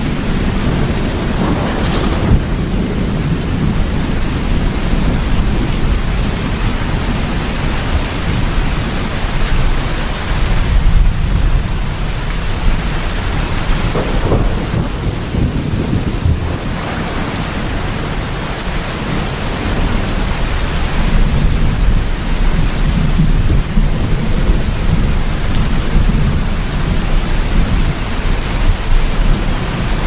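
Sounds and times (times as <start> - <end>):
heavy rainfall: 0.0 - 30.0
rolling thunder: 0.0 - 30.0.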